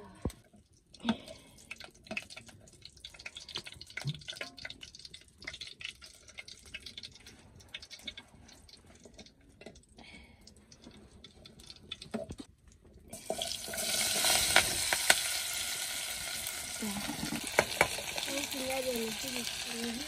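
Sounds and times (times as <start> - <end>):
wood fire crackling and popping: 0.1 - 20.0.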